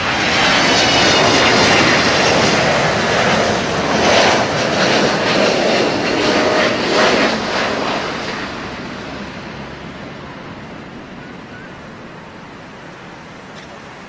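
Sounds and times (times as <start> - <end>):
aircraft noise: 0.0 - 14.0.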